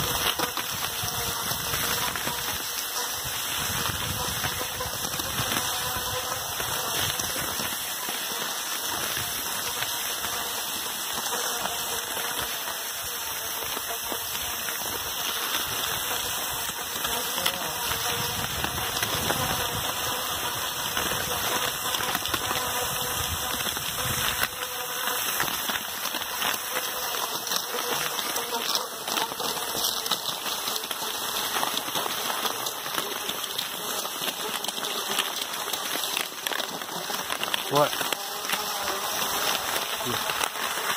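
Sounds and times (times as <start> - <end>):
footsteps on packed snow: 0.0 - 40.9.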